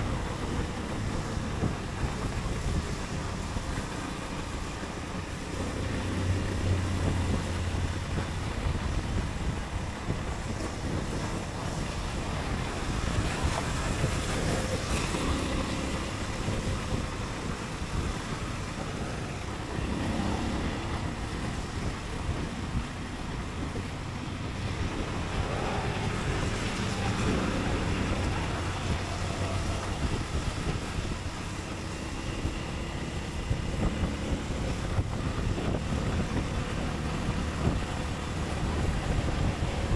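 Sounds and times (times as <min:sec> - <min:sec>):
motorcycle engine running: 0:00.0 - 0:39.9
road noise: 0:00.0 - 0:39.9
wind rushing over microphone: 0:00.0 - 0:39.9.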